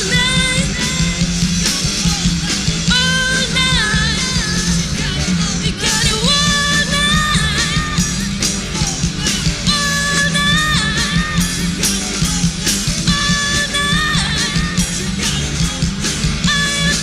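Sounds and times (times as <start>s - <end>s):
bass: 0.0s - 17.0s
bending guitar lead: 0.0s - 17.0s
drums: 0.0s - 17.0s.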